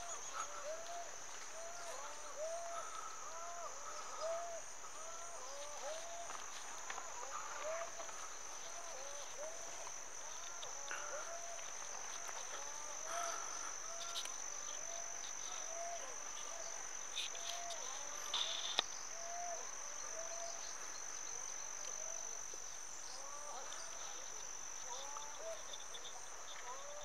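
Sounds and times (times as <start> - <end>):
insects trilling: 0.0 - 27.0
short arched insect calls: 0.0 - 27.0.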